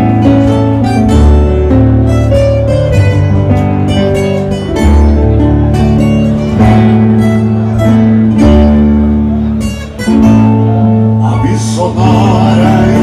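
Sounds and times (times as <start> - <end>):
plucked acoustic guitars: 0.0 - 13.0
sustained bass and keyboard: 0.0 - 13.0.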